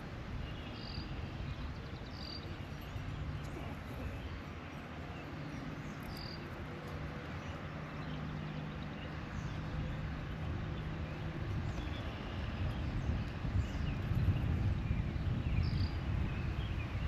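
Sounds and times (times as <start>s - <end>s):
distant traffic hum: 0.0s - 17.0s.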